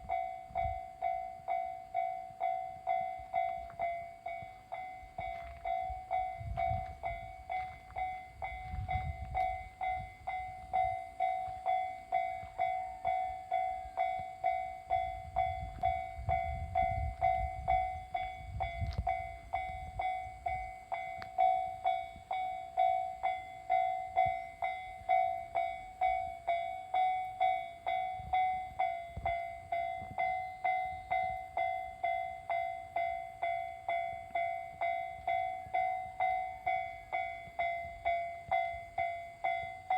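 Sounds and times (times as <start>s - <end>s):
level crossing warning bell ringing: 0.0s - 39.9s
train rumbling: 0.0s - 39.9s.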